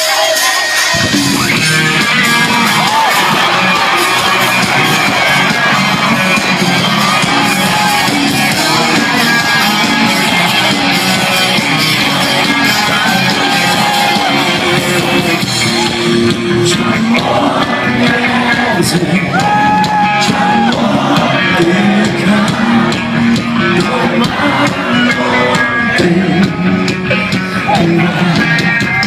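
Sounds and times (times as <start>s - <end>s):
crowd shouting: 0.0s - 29.0s
rock band playing: 0.0s - 29.0s.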